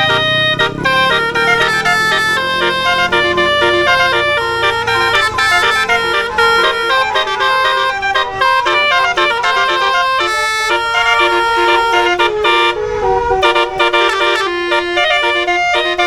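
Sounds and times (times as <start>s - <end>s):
bus air horns playing melody: 0.0s - 16.0s.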